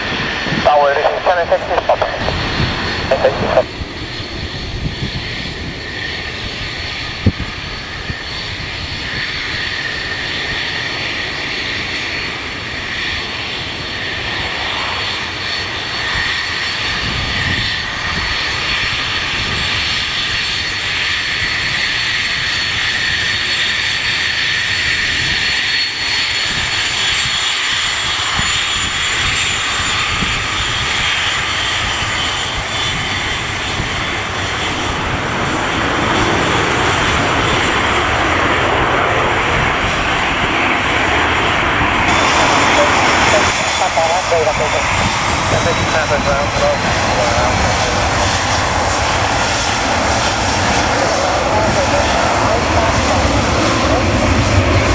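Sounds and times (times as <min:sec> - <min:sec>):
wind rumbling on microphone: 0:00.0 - 0:12.6, 0:13.6 - 0:23.4, 0:26.4 - 0:54.9
airliner engines whining: 0:00.0 - 0:54.9.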